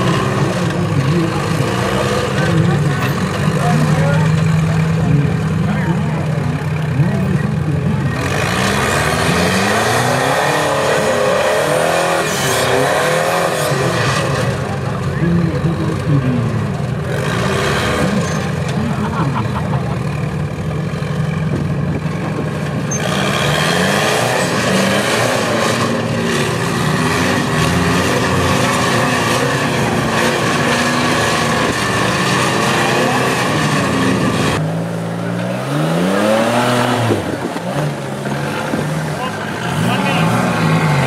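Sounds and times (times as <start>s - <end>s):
buggy engine revving: 0.0s - 41.0s.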